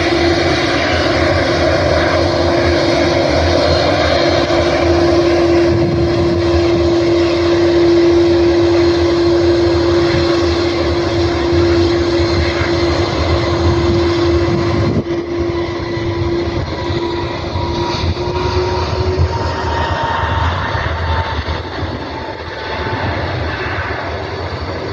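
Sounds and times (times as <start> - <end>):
jet engines whining: 0.0 - 24.9.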